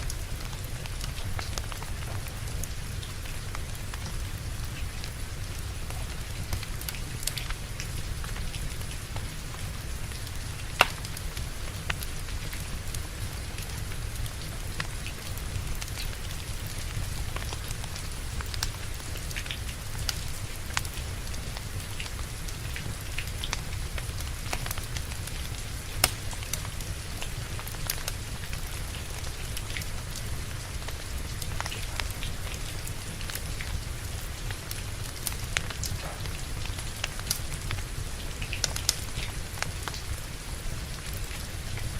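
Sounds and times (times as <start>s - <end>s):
steady rain: 0.0s - 41.9s
wood fire crackling and popping: 0.0s - 41.9s.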